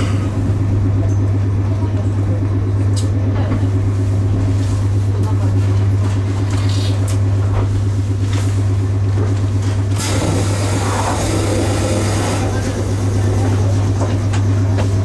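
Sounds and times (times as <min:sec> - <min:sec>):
low electrical hum of train: 0:00.0 - 0:15.0.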